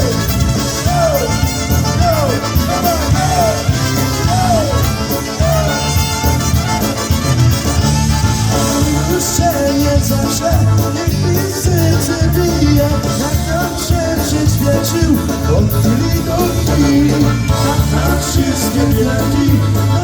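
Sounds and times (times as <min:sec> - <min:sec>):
polka band playing: 0:00.0 - 0:20.0.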